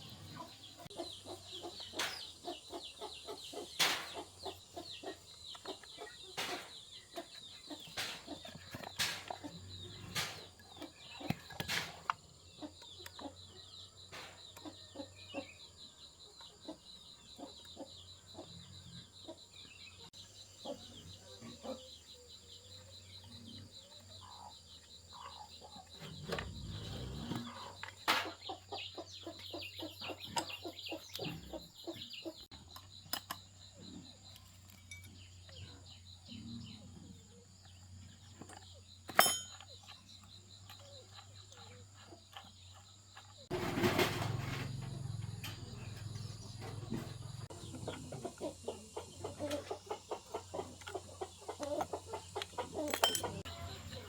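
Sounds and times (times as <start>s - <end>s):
chickens clucking: 0.0s - 34.4s, 40.0s - 54.0s.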